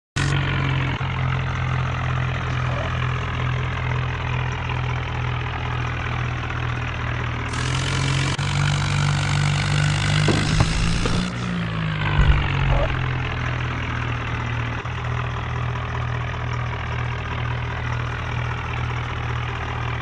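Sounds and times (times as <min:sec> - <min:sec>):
tractor diesel engine running: 0:00.2 - 0:20.0.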